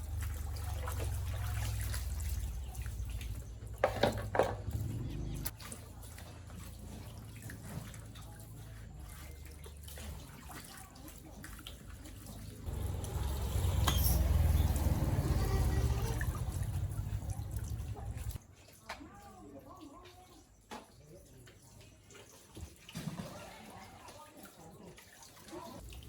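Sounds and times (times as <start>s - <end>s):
water running and splashing: 0.0s - 26.0s.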